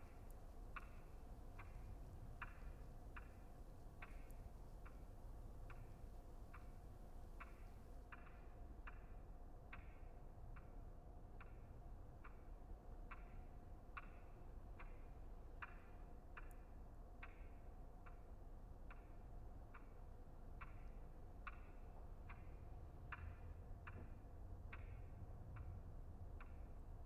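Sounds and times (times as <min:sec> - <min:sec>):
clock ticking: 0:00.0 - 0:09.9, 0:12.2 - 0:27.0
faint low hum: 0:00.0 - 0:27.0.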